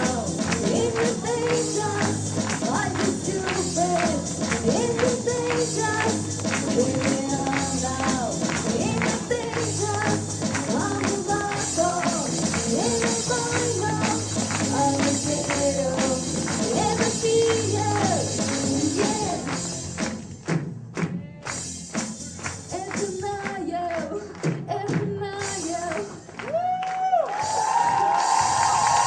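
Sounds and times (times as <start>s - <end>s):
person singing: 0.0s - 19.7s, 22.6s - 26.8s
live pop-rock band: 0.0s - 26.5s.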